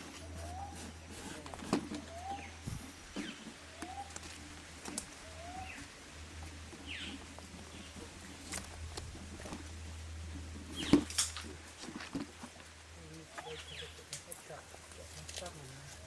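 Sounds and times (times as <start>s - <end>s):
birds chirping: 0.0s - 11.2s, 13.1s - 16.0s.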